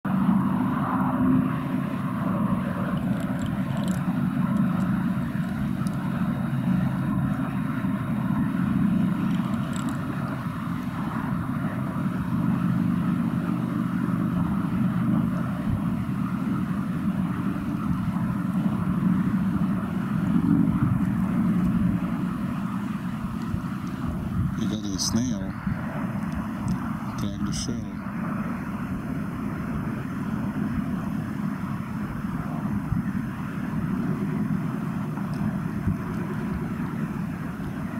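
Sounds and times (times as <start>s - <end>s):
engine droning: 0.0s - 37.9s.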